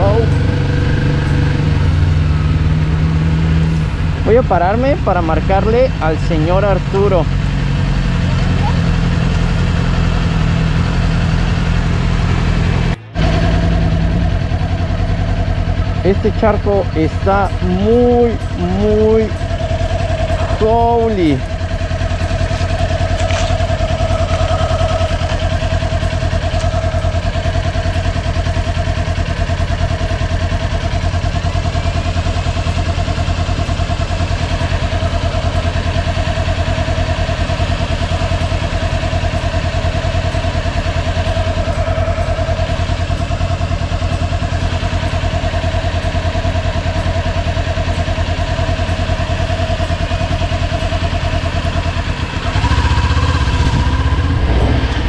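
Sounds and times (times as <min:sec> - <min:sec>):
motorcycle engine whine and rumble: 0:00.0 - 0:55.0.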